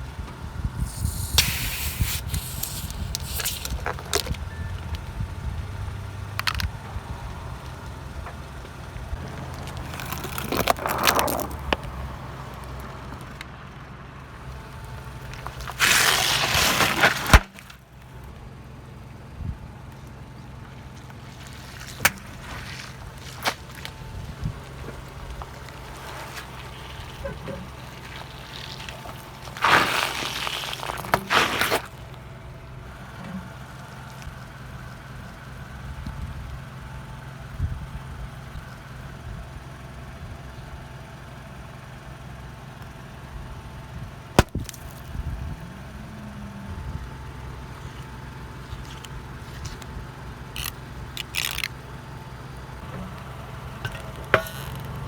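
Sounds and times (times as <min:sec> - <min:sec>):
car engine running slowly: 0:00.0 - 0:55.0
objects crunching under tyres: 0:00.1 - 0:35.5, 0:43.9 - 0:55.0.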